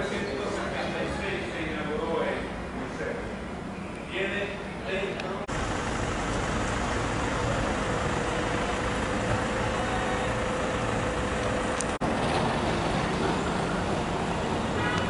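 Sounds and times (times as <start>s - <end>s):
vehicle road and engine noise: 1.2s - 15.0s.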